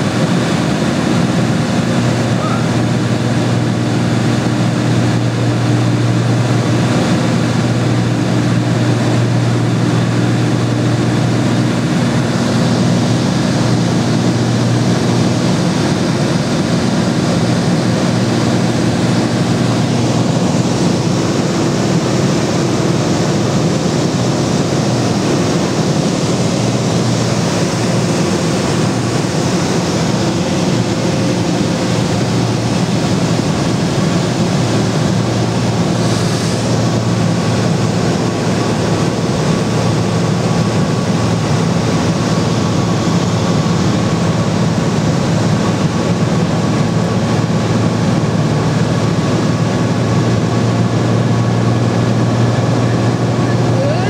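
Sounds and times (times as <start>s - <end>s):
light aircraft engine droning: 0.0s - 54.0s
rushing airflow: 0.0s - 54.0s.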